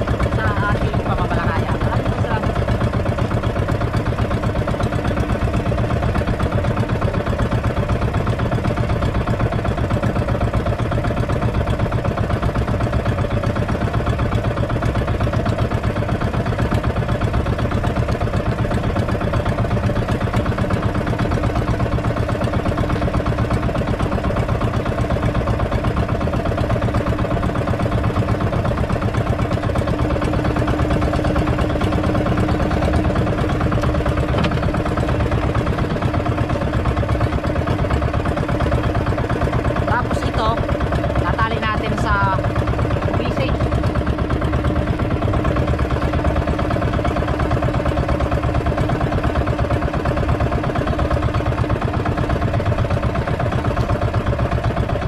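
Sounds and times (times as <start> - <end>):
small boat engine running: 0.0 - 55.0.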